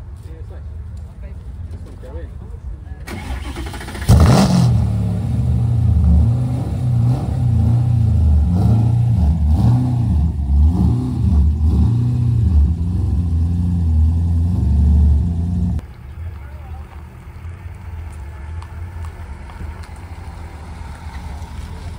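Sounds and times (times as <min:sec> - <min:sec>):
sports car engine burbling: 0:03.1 - 0:21.9.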